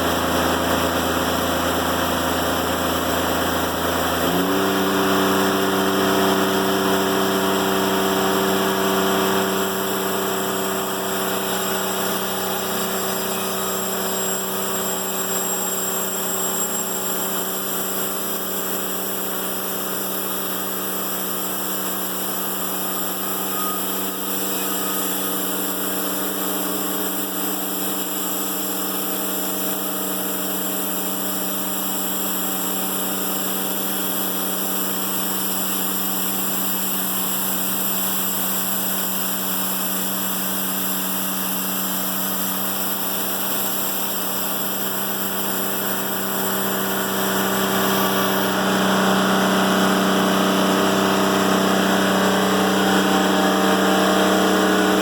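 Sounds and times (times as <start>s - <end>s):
sawmill engine revving: 0.0s - 55.0s.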